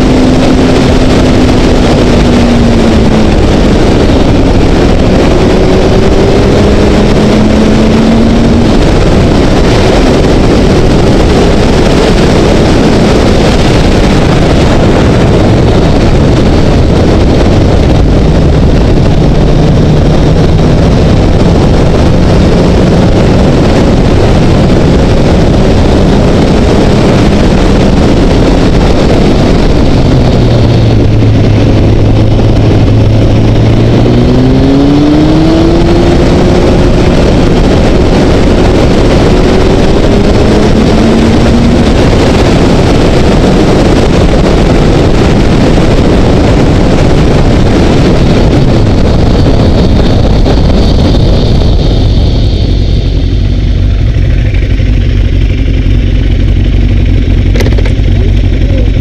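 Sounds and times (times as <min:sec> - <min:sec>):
motorcycle engine at road speed: 0:00.0 - 0:59.0
rushing wind: 0:00.0 - 0:59.0.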